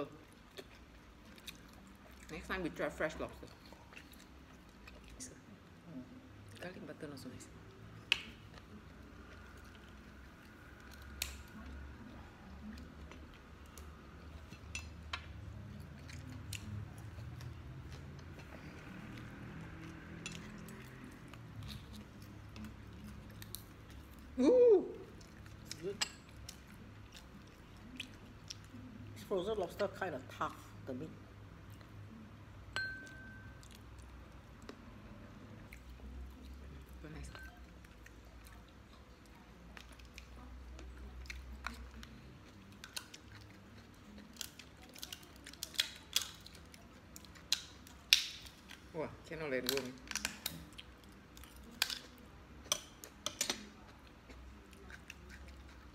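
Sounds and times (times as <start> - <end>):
chewing: 0.0 - 6.8, 7.5 - 24.4, 25.0 - 29.9, 33.0 - 48.9, 49.6 - 55.9
eating sounds: 0.0 - 30.8, 33.5 - 48.9, 49.6 - 55.9.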